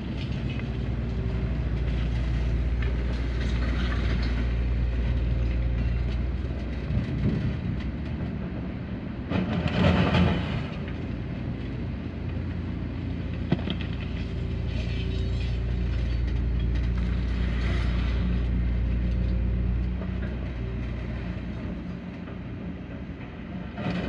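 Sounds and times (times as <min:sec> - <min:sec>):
diesel machinery rumbling: 0:00.0 - 0:24.0.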